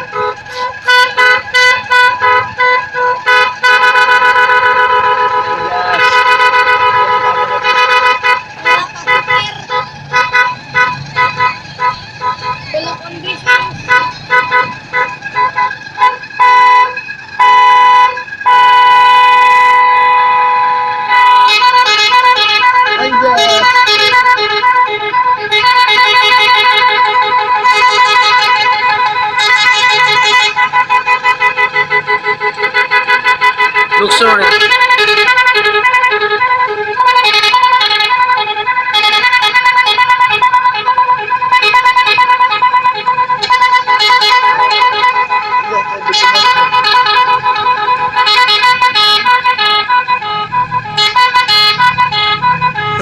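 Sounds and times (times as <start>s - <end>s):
musical bus horn toots: 0.0s - 53.0s.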